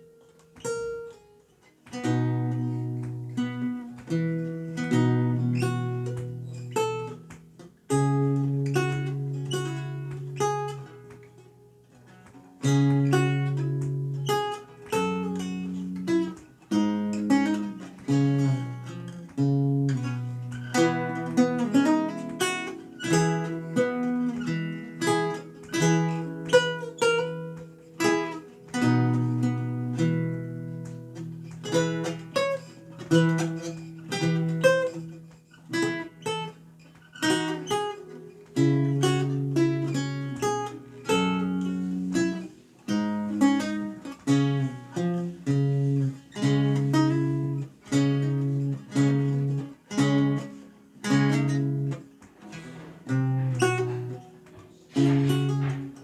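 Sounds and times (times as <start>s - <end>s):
solo lute playing: 0.0s - 56.0s.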